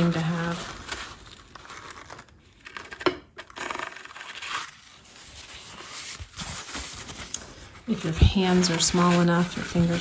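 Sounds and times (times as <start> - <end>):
paper towel rustling and crinkling: 0.0 - 2.6, 4.4 - 10.0.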